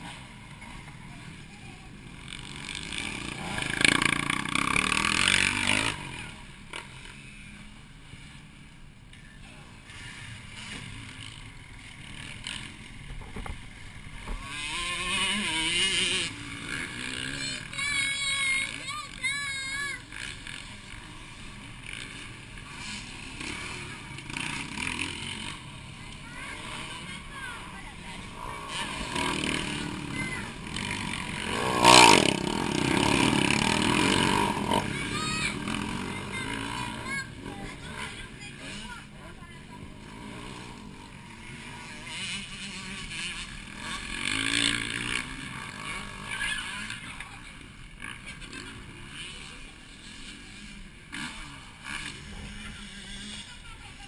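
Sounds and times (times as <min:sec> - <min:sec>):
dirt bike engine revving: 0:00.0 - 0:54.0
motocross bike engine passing: 0:00.0 - 0:54.0.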